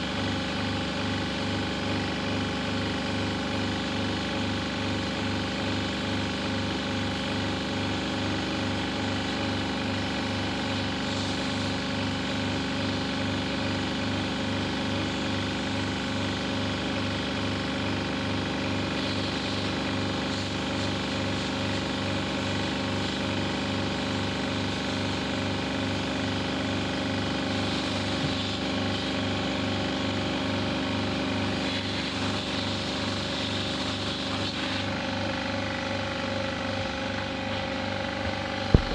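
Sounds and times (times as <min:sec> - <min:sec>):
pressure washer spraying water: 0:00.0 - 0:17.3, 0:18.8 - 0:25.3, 0:27.3 - 0:35.0.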